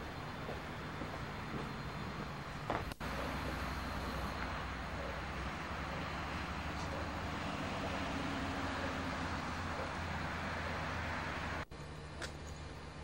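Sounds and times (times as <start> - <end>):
low hum: 0.0 - 13.0
traffic rushing hiss: 0.0 - 13.0.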